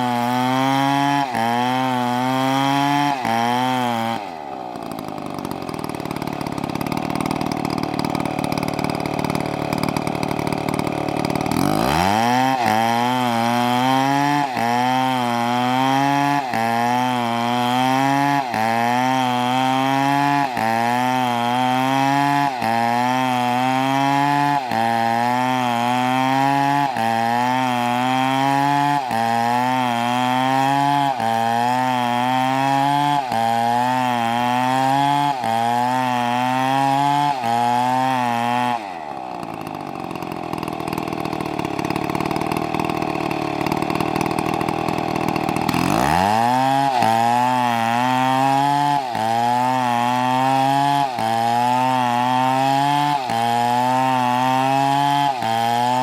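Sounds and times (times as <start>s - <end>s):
chainsaw cutting tree: 0.0s - 56.0s.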